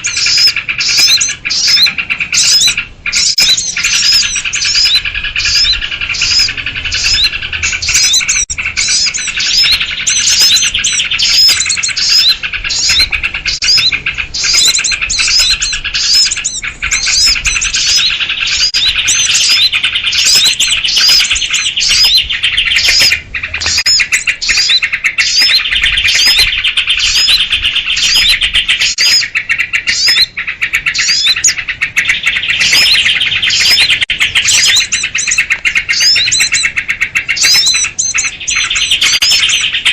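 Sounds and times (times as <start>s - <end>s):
bulbul calls: 0.0s - 39.9s
songbirds chirping: 0.0s - 39.9s.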